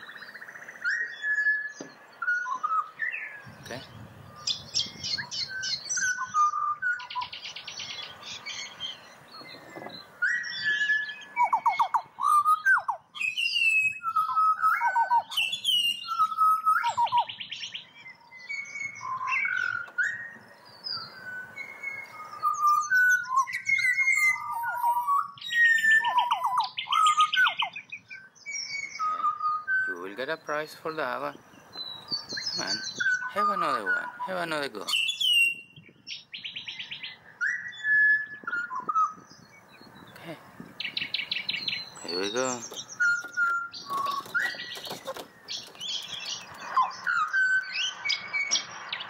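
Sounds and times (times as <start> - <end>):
bird singing fluting whistles: 0.0 - 30.9, 31.6 - 40.1, 40.8 - 49.0.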